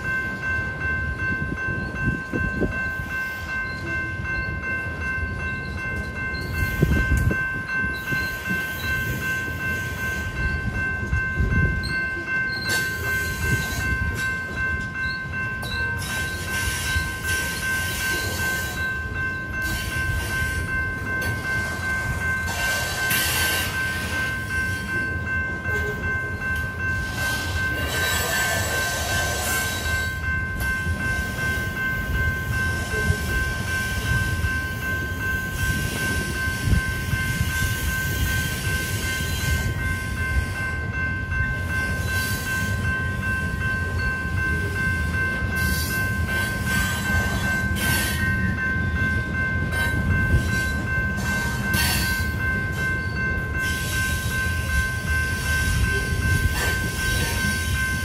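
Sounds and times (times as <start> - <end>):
crossing warning bell ringing: 0.0 - 58.0
freight train rumbling: 0.0 - 58.0.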